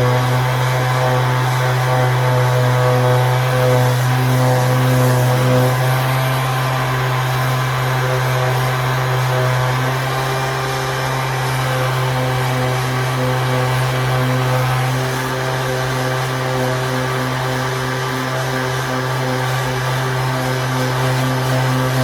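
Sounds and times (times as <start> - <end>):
motor droning: 0.0 - 22.0.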